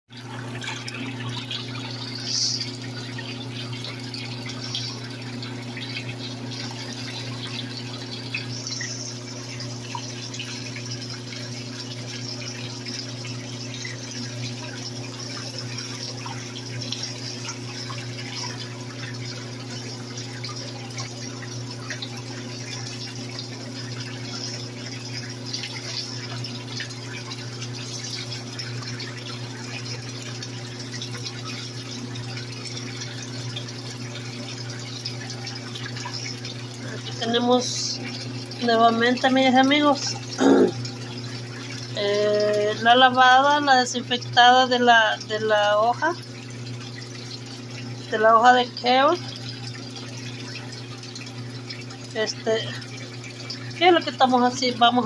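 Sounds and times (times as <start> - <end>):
splashing vegetables being rinsed: 0.1 - 55.0
steady low hum: 0.2 - 55.0.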